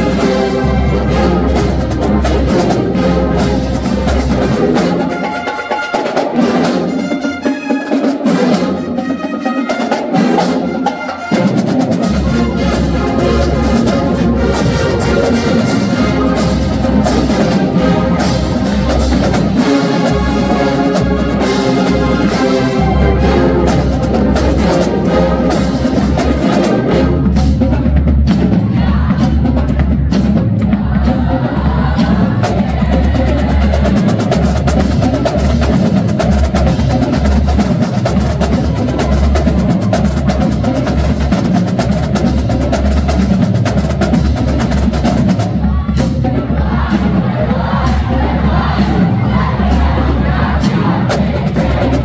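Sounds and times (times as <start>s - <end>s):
marching band playing: 0.0s - 52.0s
rapid snare drum strokes: 0.0s - 52.0s.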